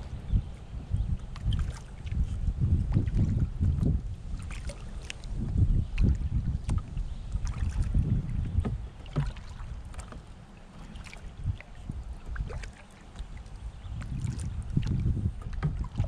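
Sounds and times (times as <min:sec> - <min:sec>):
wind gusting on microphone: 0:00.0 - 0:10.3, 0:10.9 - 0:16.0
canoe paddling on river: 0:00.0 - 0:16.0
paddle clicks in water: 0:01.2 - 0:02.3, 0:02.9 - 0:16.0.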